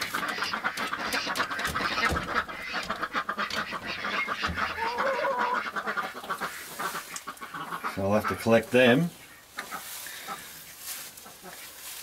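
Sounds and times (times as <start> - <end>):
ducks quacking: 0.0 - 11.8.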